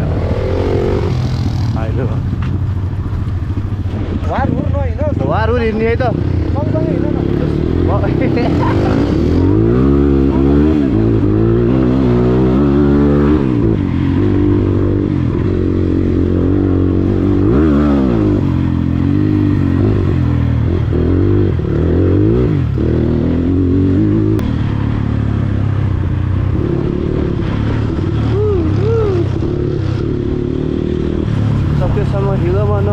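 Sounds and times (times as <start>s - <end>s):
dirt bike engine revving: 0.0s - 2.3s, 5.5s - 32.9s.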